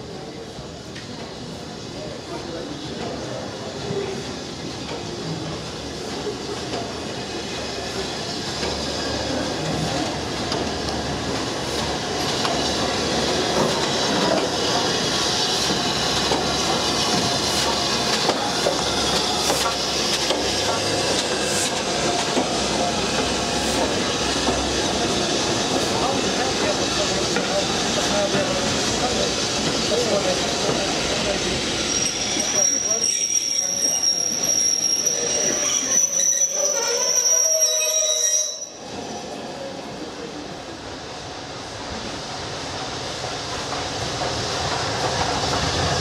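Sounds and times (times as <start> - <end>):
steam train rolling past: 0.0 - 46.0.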